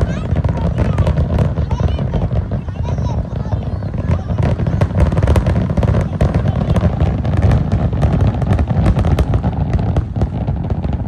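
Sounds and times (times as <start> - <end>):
firework crackling pops: 0.0 - 11.0
rumble of firework bursts: 0.0 - 11.0.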